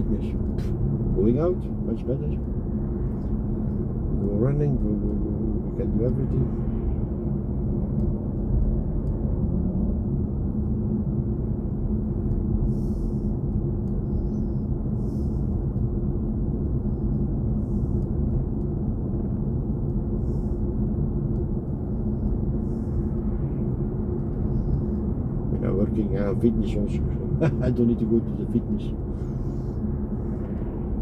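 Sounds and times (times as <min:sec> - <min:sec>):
road and tyre rumble in car: 0:00.0 - 0:31.0.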